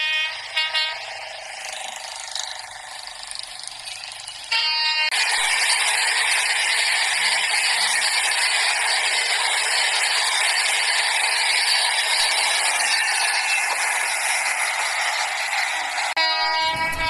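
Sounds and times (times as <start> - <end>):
vehicle road noise: 0.0 - 17.0.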